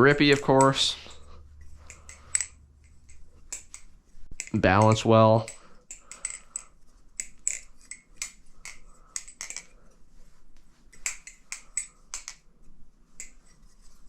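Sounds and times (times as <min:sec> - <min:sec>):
butterfly knife handles clacking: 0:00.0 - 0:10.0, 0:10.9 - 0:13.9.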